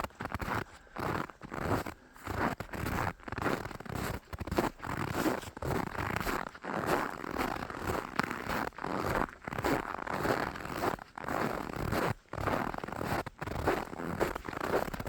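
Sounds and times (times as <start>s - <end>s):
footsteps crunching through snow: 0.0s - 15.0s.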